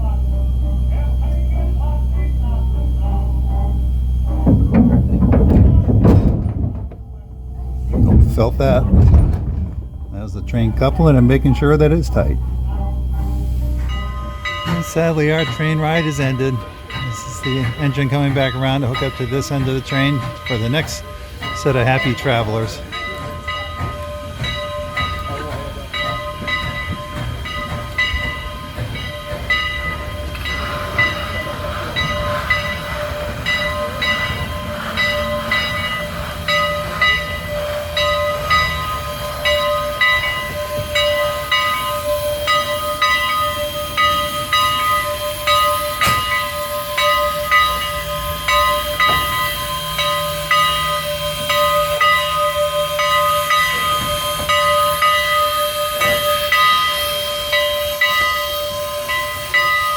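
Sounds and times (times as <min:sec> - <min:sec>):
low engine rumble: 0:00.0 - 0:53.9
steam locomotive bell ringing: 0:00.0 - 0:59.9.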